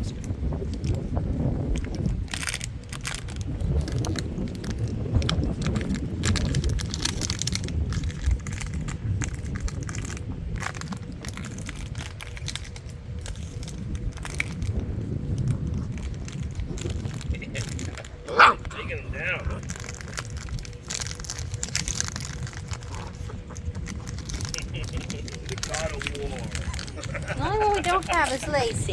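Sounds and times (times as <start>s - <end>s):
dog chewing crinkly toy: 0.2s - 28.9s
low rumble: 2.4s - 28.9s.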